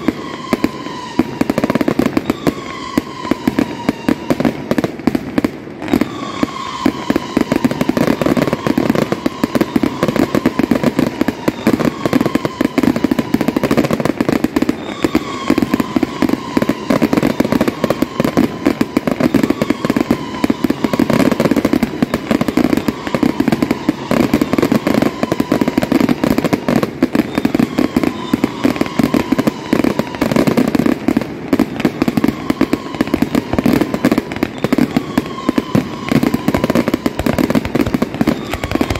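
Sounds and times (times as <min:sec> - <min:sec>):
downward-sliding whistle tone: 0:00.0 - 0:04.5, 0:05.9 - 0:13.6, 0:14.7 - 0:25.9, 0:27.2 - 0:30.4, 0:32.2 - 0:37.2, 0:38.3 - 0:38.9
fireworks crackling and banging: 0:00.0 - 0:38.9.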